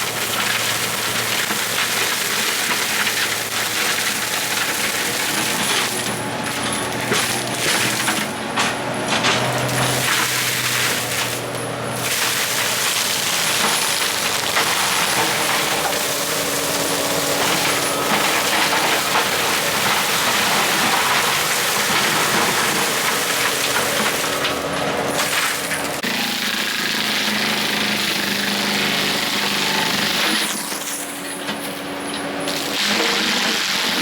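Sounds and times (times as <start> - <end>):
diesel engine running hard: 0.0 - 34.0.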